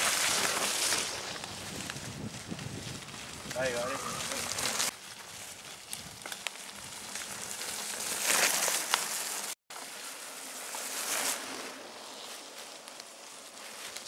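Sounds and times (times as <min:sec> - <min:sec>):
bike tyres rolling through leaves: 0:00.0 - 0:14.0.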